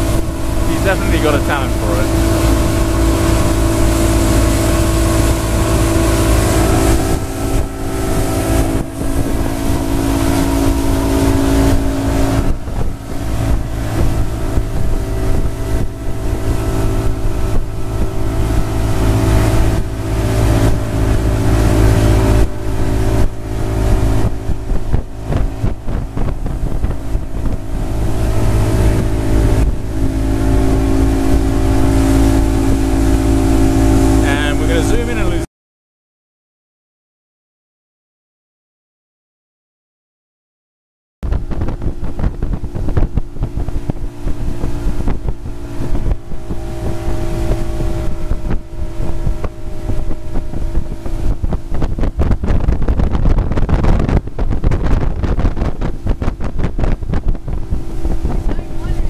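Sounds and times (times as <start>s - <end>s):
wind buffeting microphone: 0.0s - 35.4s, 41.2s - 59.0s
outboard motor running: 0.0s - 35.5s, 41.2s - 59.0s.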